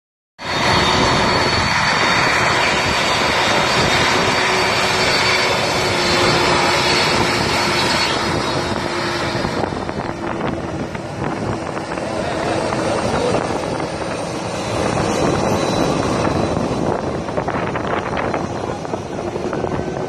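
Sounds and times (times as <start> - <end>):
jet engines running with high whine: 0.4 - 20.0.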